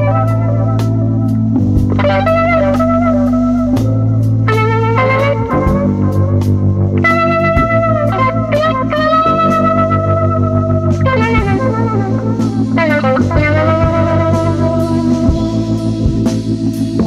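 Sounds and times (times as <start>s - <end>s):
electric guitar lead: 0.0s - 17.0s
held bass notes: 0.0s - 17.0s.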